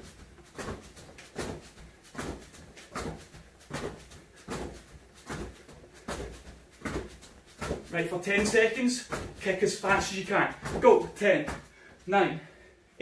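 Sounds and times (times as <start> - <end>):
feet landing on foam mat: 0.0 - 12.1
swish of legs and trousers: 0.0 - 12.1.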